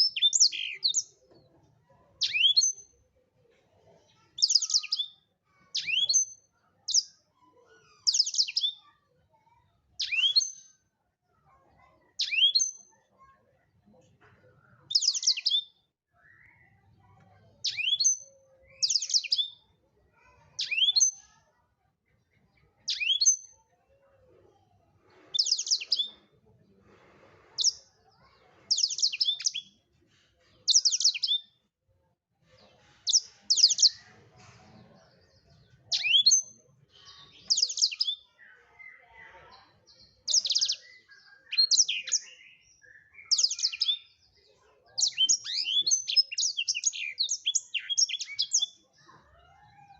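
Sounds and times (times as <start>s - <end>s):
canary singing trilled phrases: 0.0s - 3.1s, 4.1s - 21.6s, 22.4s - 26.6s, 27.6s - 29.9s, 30.5s - 31.7s, 32.8s - 49.3s.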